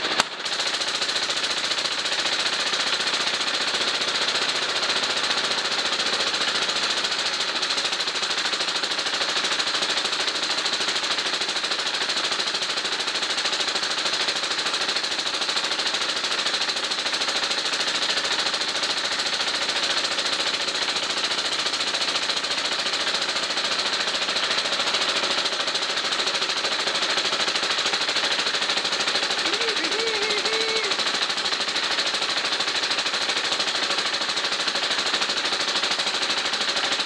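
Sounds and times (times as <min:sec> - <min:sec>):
stationary engine running: 0:00.0 - 0:37.0.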